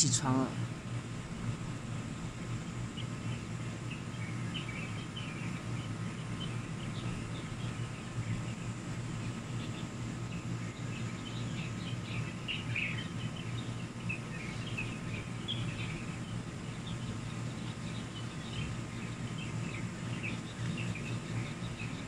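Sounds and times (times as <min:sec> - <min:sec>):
low outdoor hum: 0:00.0 - 0:22.0
small birds chirping: 0:02.3 - 0:22.0.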